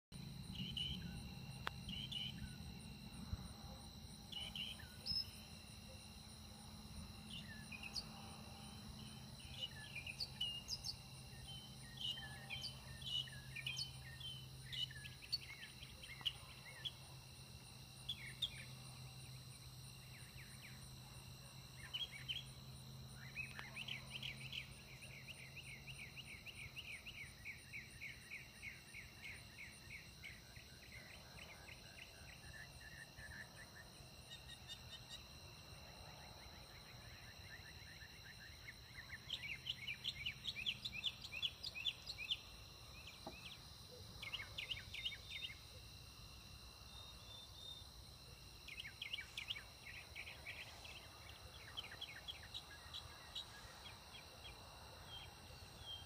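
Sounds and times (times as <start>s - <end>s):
crickets and insects droning: 0.1s - 56.0s
faint low hum: 0.2s - 56.0s.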